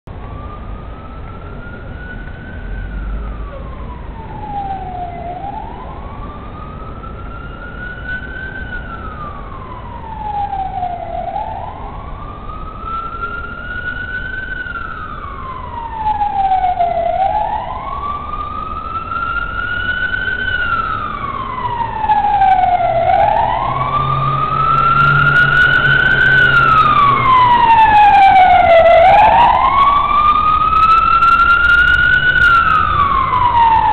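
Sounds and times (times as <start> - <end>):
police siren wailing: 0.1 - 33.9.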